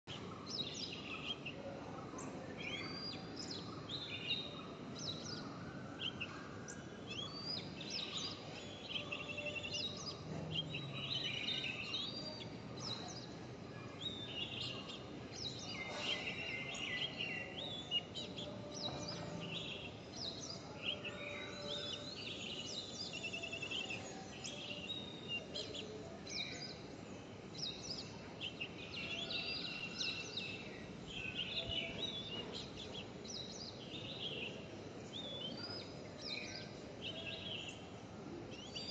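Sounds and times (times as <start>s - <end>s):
steady background noise: 0.1s - 38.9s.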